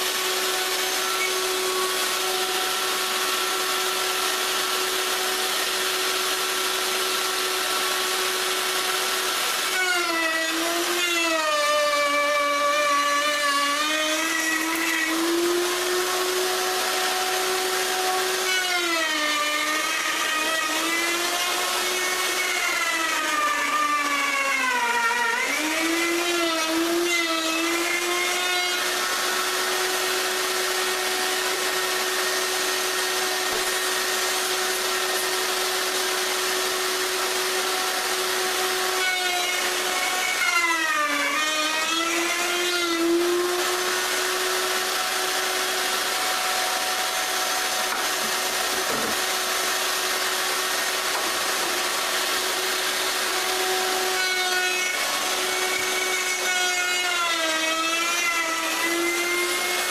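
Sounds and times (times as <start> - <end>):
router cutting wood: 0.0 - 59.9.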